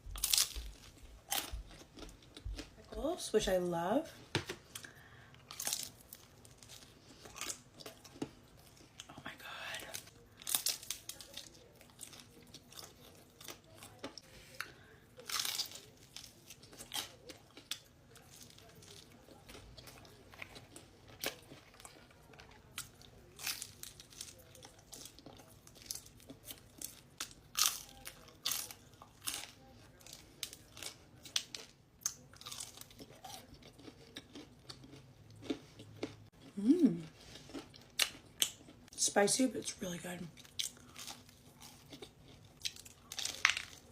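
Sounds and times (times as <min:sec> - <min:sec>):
chewing crunchy pizza crust: 0:00.0 - 0:03.2, 0:04.2 - 0:39.0, 0:40.2 - 0:43.9.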